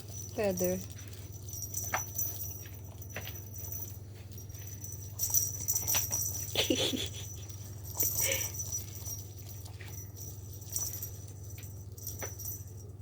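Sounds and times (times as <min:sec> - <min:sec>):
light clicks and patter: 0:00.0 - 0:13.0
steady low hum: 0:00.0 - 0:13.0.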